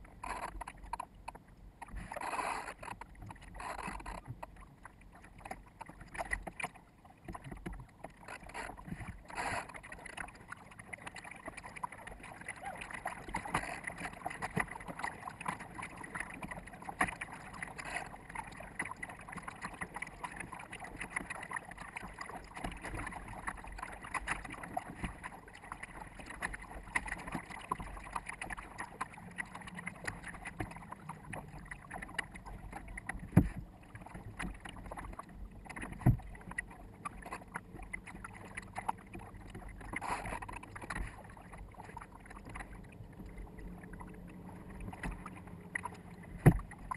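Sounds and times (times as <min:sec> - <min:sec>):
water slapping against boat hull: 0:00.0 - 0:46.9.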